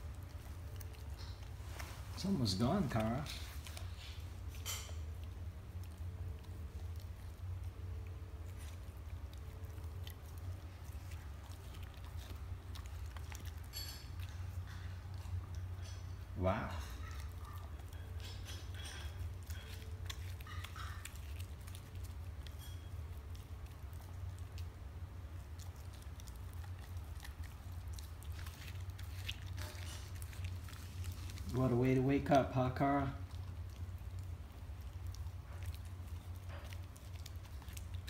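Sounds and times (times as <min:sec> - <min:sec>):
dog chewing meat: 0:00.0 - 0:38.0
steady low hum: 0:00.0 - 0:38.0.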